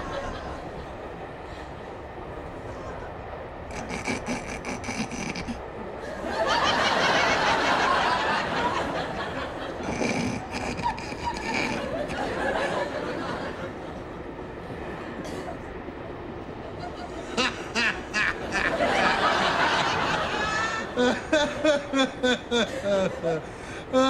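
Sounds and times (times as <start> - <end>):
audience laughter: 0.0 - 1.2, 3.7 - 15.7, 16.5 - 24.0.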